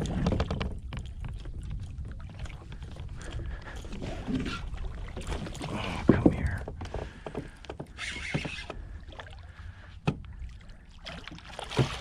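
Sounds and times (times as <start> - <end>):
water and wind rumble: 0.0 - 12.0.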